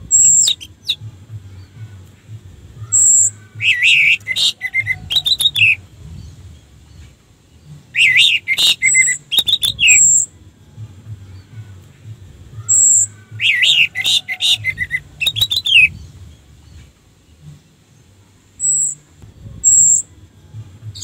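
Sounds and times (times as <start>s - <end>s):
thrush singing: 0.0s - 21.0s.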